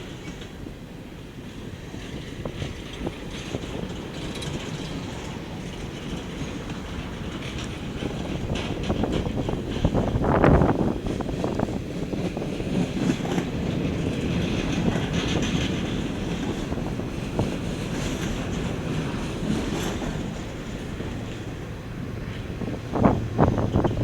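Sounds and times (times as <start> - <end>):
train wheels rumbling on track: 0.0 - 24.0
train wheels clattering: 1.5 - 24.0.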